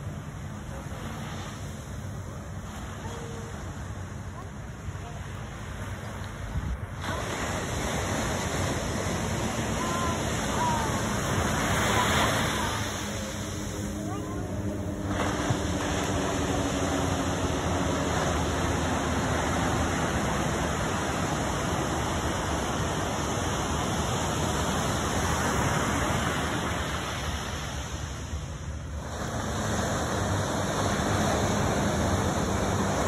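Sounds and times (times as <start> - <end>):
steady rushing noise: 4.0 - 33.0.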